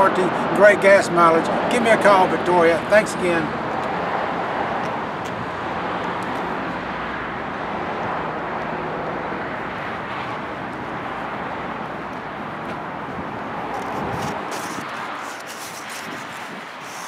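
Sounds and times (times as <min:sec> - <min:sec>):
road traffic roar: 0:00.0 - 0:17.0.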